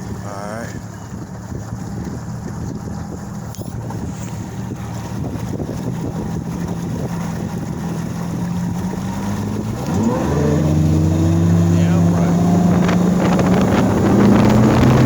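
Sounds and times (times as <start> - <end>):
outboard motor running: 0.0 - 15.0
wind rush on microphone: 0.0 - 15.0.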